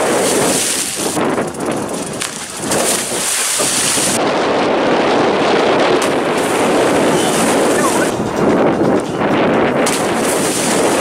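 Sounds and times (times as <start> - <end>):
water churning: 0.0 - 4.2, 5.1 - 11.0
wind on microphone: 0.0 - 11.0.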